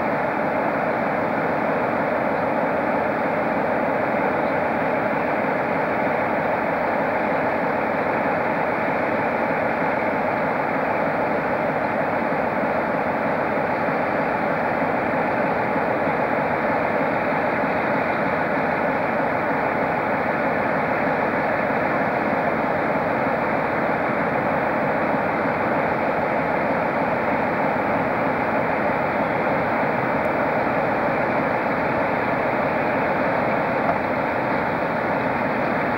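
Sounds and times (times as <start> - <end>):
diesel locomotive engine idling: 0.0 - 35.9.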